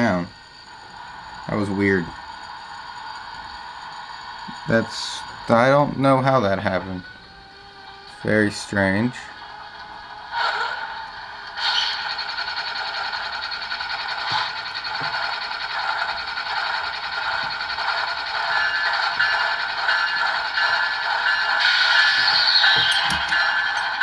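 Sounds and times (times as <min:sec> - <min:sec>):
diesel engine sound through small speaker: 0:00.0 - 0:03.7, 0:04.4 - 0:24.0.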